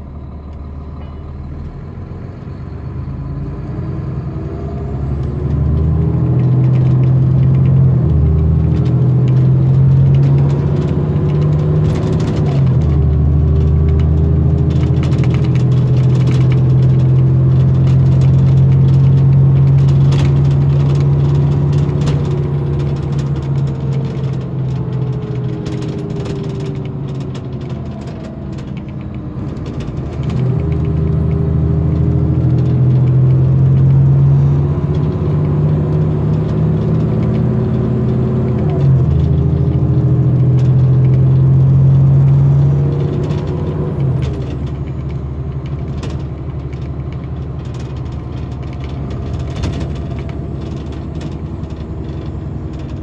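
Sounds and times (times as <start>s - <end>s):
diesel coach engine: 0.0s - 53.0s.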